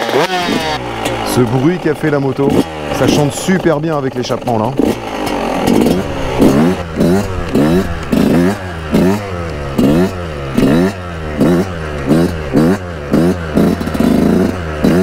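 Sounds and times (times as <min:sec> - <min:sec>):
motocross engine revving: 0:00.0 - 0:15.0.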